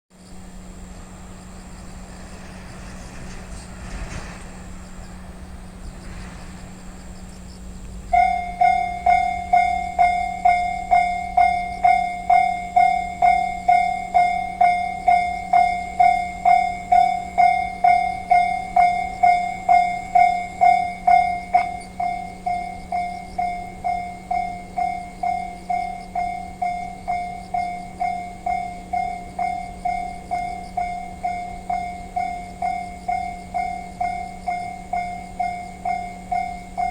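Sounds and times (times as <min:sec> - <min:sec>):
level crossing warning bell: 0:00.4 - 0:36.9.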